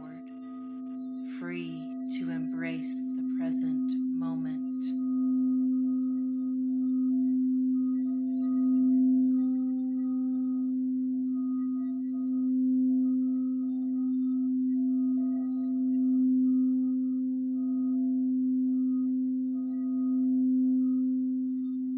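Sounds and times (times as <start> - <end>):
singing bowl low tone: 0.0 - 21.9.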